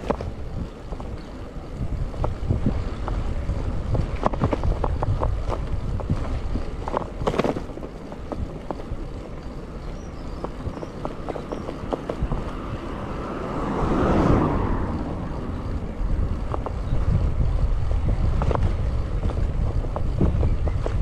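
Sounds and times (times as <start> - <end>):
bike clicks and rattles: 0.0 - 13.1, 15.4 - 21.0
tyre and road rumble: 0.0 - 21.0
wind buffeting microphone: 0.0 - 21.0.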